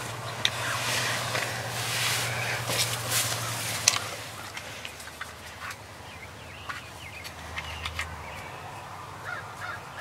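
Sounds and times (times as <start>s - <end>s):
wild turkeys calling: 0.0s - 8.6s, 9.2s - 10.0s.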